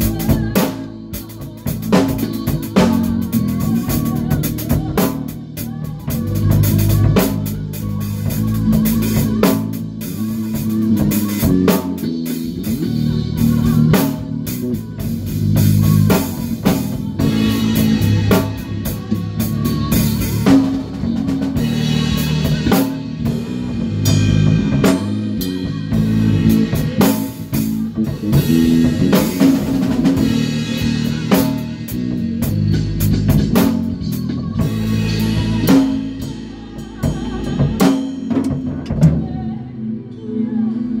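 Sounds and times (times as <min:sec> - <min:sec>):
drum kit playing: 0:00.0 - 0:39.6
bass guitar notes: 0:00.0 - 0:41.0.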